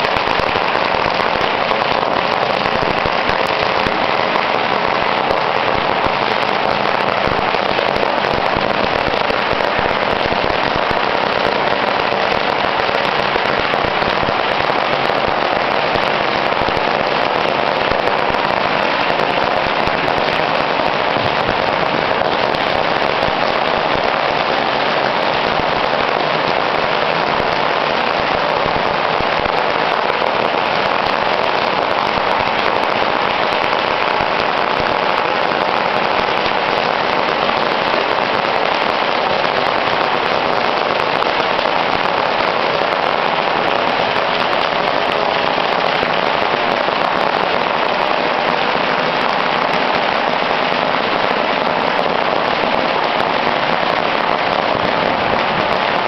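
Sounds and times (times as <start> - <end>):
firecrackers crackling: 0.0 - 56.0.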